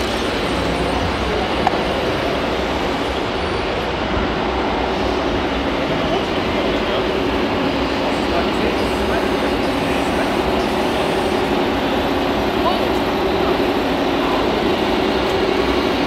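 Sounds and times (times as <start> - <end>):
voices murmuring: 0.0 - 16.0.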